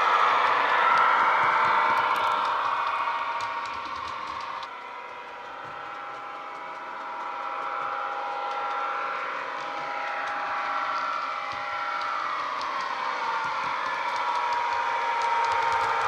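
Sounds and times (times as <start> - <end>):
diesel train engine through small speaker: 0.0 - 16.0.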